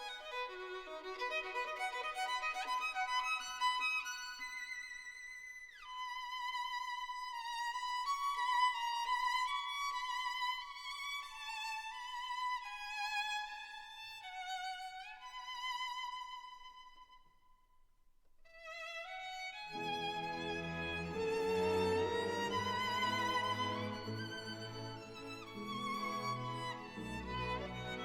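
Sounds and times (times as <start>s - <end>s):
solo violin slow melody: 0.0s - 17.2s, 18.5s - 28.0s.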